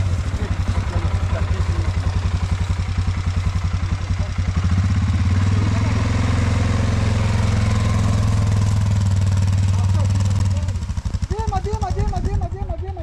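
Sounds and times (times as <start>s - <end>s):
quad bike engine: 0.0s - 13.0s.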